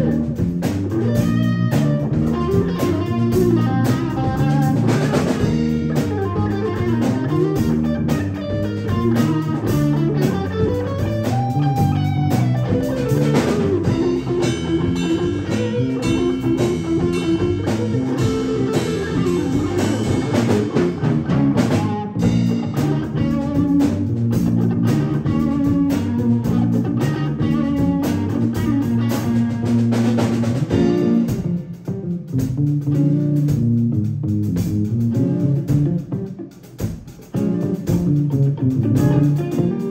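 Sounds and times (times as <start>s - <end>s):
drum kit: 0.0s - 39.9s
electric bass guitar: 0.0s - 39.9s
live funk band playing: 0.0s - 39.9s.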